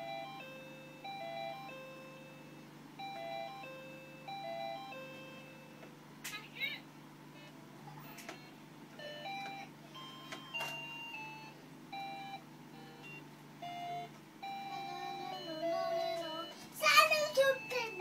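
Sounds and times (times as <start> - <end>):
electronic toy beeping melody: 0.0 - 5.9, 7.4 - 18.0.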